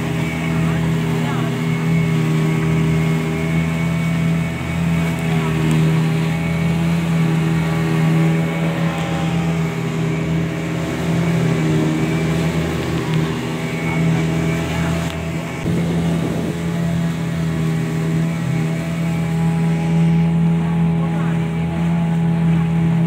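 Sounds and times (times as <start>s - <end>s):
motorboat engine running: 0.0s - 23.0s
water rushing against boat: 0.0s - 23.0s.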